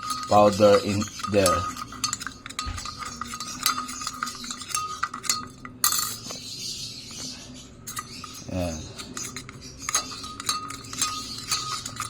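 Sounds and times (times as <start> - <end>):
spoon clinking in jar: 0.0 - 6.6, 7.9 - 12.0.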